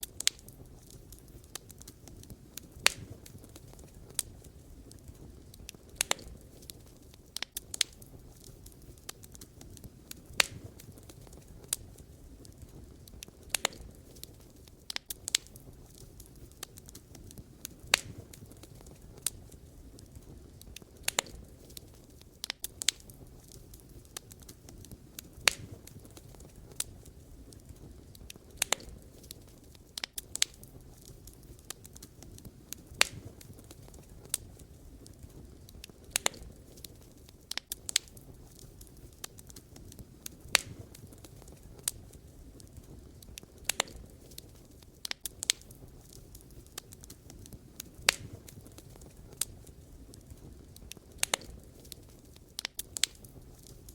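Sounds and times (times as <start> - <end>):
burning firewood popping: 0.0 - 53.9
low rush of flames: 0.0 - 53.9.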